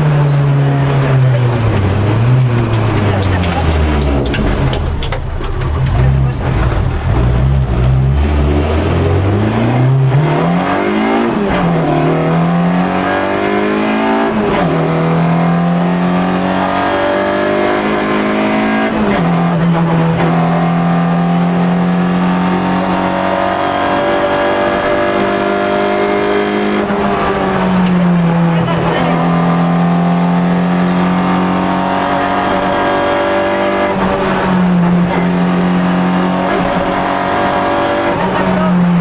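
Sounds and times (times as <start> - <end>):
rally car engine accelerating: 0.0 - 39.0.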